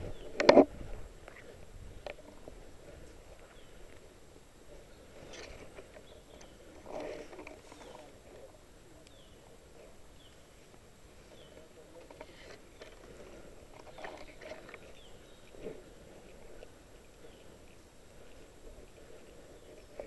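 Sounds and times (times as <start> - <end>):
faint rustling: 0.0 - 20.0
outdoor background noise: 0.0 - 20.0
bird chirping faintly: 1.3 - 20.0.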